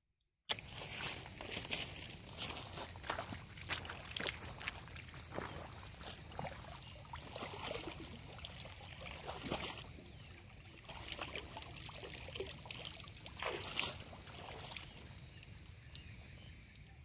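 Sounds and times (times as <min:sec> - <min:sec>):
water splashes: 0:00.5 - 0:16.8
pond water plops and trickles: 0:00.5 - 0:17.0.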